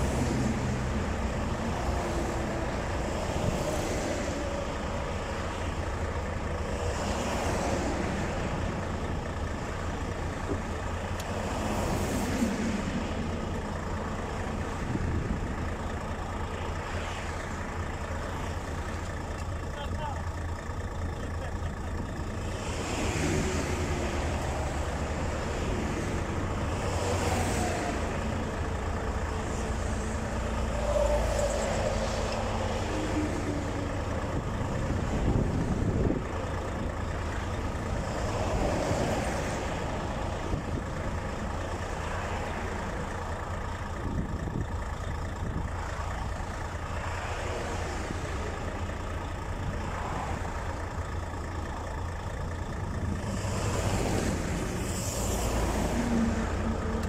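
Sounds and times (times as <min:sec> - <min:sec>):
highway traffic rumble: 0:00.0 - 0:57.0.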